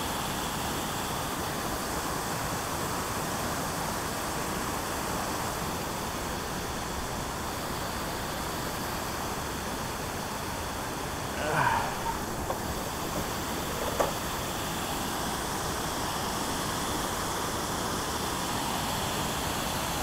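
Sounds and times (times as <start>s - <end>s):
water pouring over dam spillway: 0.0s - 20.0s.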